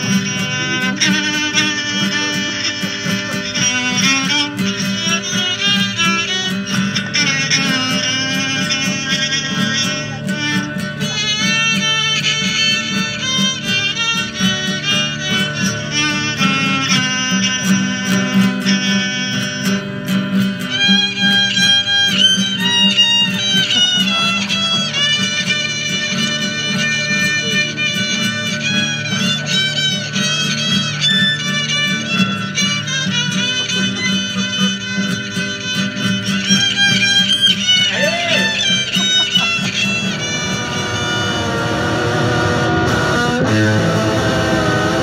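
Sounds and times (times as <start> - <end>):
bowed fiddle sliding melody: 0.0 - 45.0
wooden box guitar: 0.0 - 45.0.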